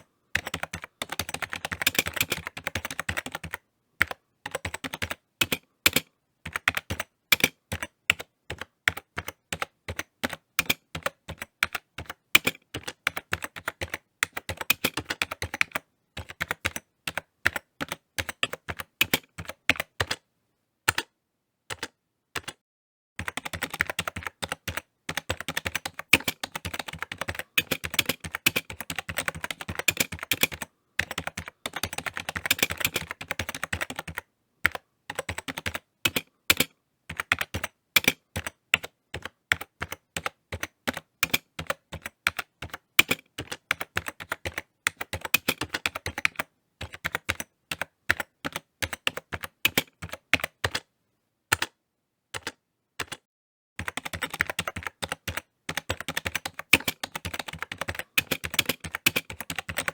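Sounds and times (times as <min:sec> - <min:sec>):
typing on computer keyboard: 0:00.0 - 0:20.2, 0:20.9 - 0:21.1, 0:21.7 - 0:22.6, 0:23.2 - 0:50.9, 0:51.5 - 0:59.9.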